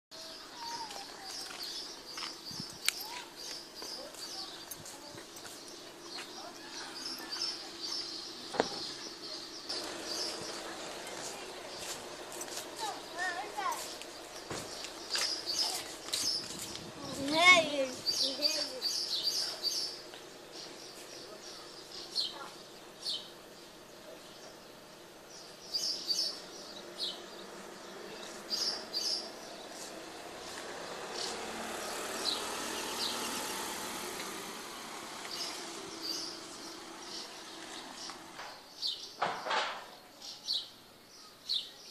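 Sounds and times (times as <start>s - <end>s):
small birds chirping: 0.1s - 41.9s.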